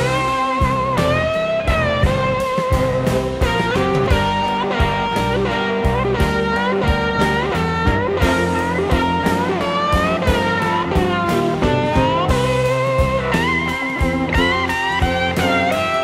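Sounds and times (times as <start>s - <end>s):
electric guitar lead with bent notes: 0.0s - 16.0s
steady beat: 0.0s - 16.0s.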